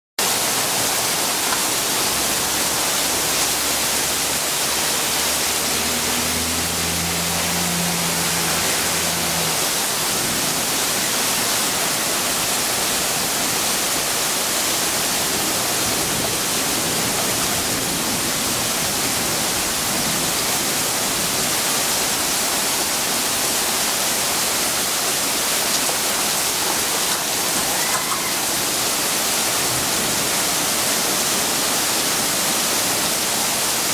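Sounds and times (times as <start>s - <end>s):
torrential rain: 0.2s - 33.9s.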